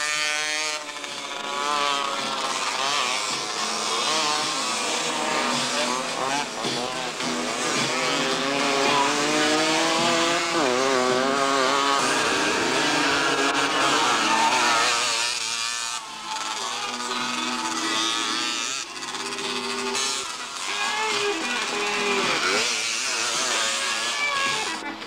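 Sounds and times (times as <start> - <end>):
motocross engines revving: 0.0 - 25.0.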